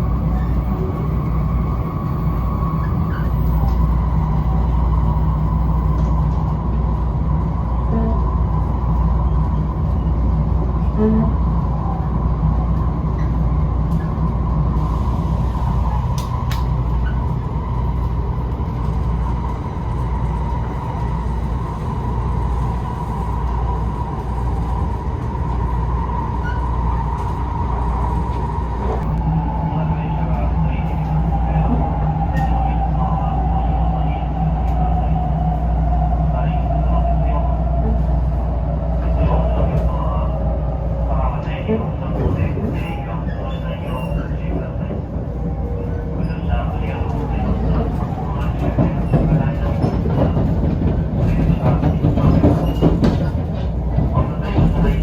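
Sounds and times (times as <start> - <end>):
train rumbling with whine: 0.0 - 55.0.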